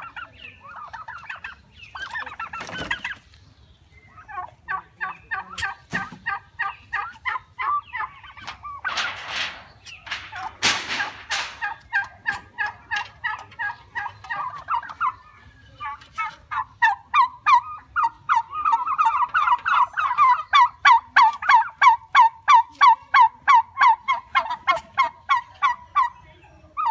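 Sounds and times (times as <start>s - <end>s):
turkey calling: 0.0s - 26.9s.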